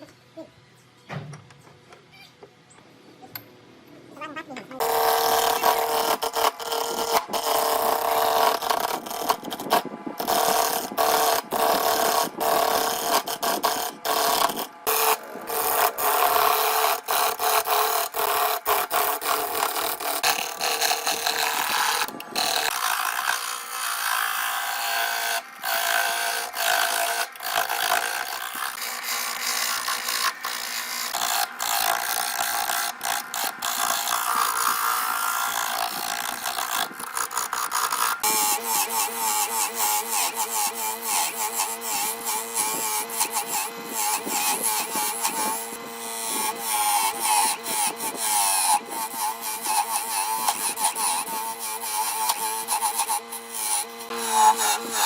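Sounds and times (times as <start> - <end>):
power tool rasping wood: 4.8 - 55.0.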